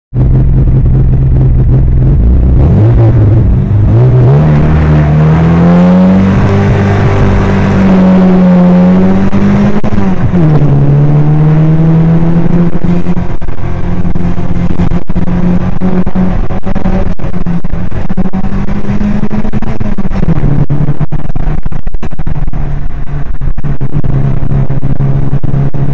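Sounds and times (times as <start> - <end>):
car engine accelerating: 0.1 - 25.9.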